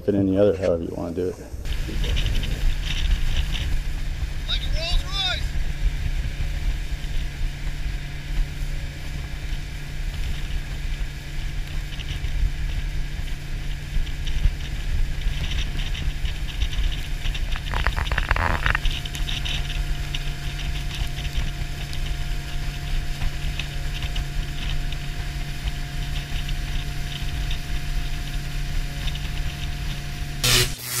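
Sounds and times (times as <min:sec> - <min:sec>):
outboard motor humming: 0:01.1 - 0:30.8.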